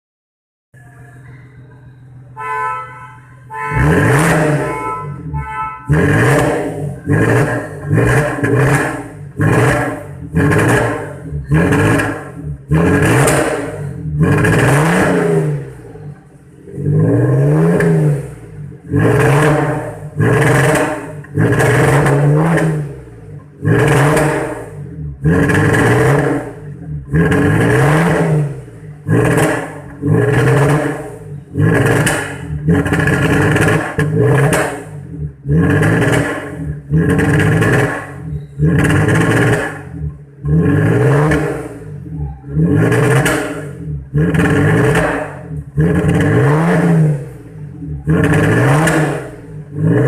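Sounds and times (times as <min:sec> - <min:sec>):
car engine revving: 0:02.1 - 0:50.0.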